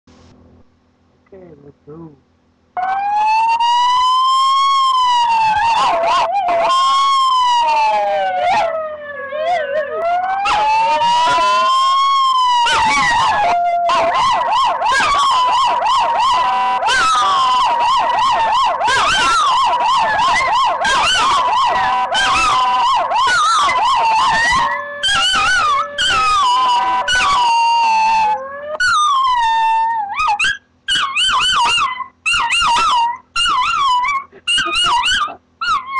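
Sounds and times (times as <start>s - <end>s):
dog howling: 2.8s - 35.9s
siren wailing: 2.8s - 35.9s.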